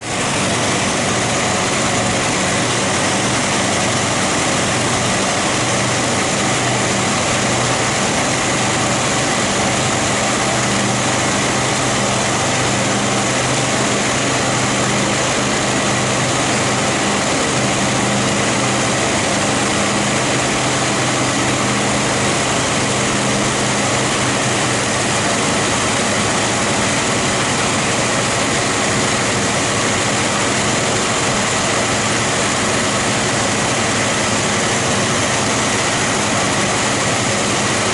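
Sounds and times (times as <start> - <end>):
car engine running steadily: 0.0 - 37.9.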